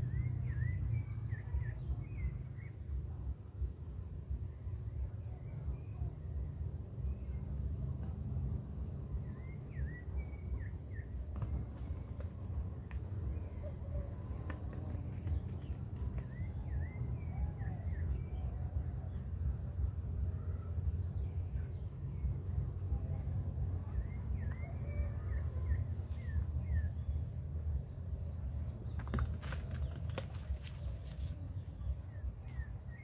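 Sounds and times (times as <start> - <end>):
pulsing cricket trill: 0.0 - 33.0.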